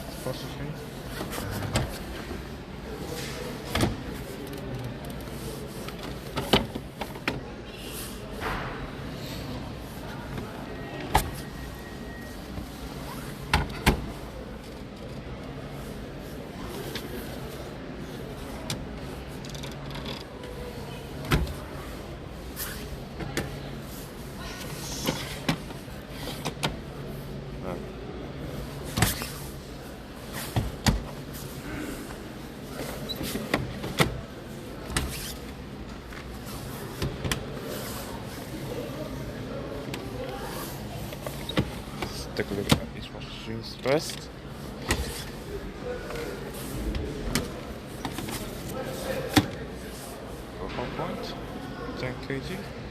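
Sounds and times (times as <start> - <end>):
steady shop hum: 0.0 - 52.9.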